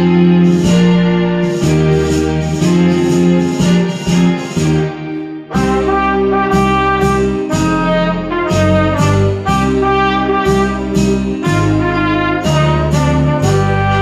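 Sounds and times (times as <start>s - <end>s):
backing track with light beat: 0.0s - 14.0s
cornet playing melody: 0.0s - 14.0s.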